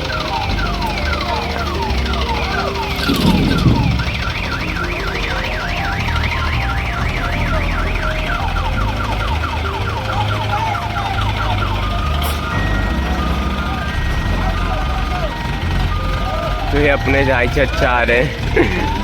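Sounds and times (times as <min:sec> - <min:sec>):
diesel engines running: 0:00.0 - 0:19.0
electronic siren alarm: 0:00.0 - 0:19.0
loud rumble: 0:00.0 - 0:19.0.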